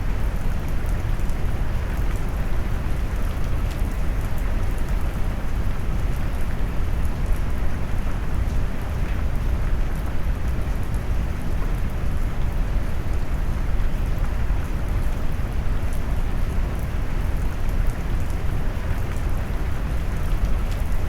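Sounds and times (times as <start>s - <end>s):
heavy rain patter: 0.0s - 21.0s.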